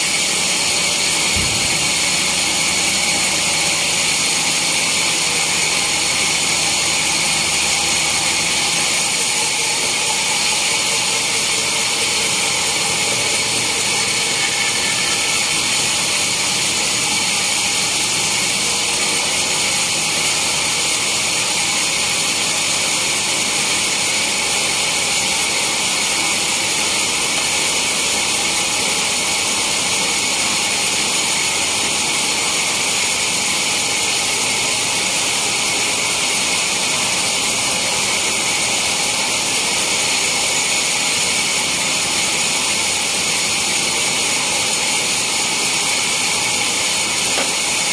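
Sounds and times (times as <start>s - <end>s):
sawmill saw whining: 0.0s - 47.9s.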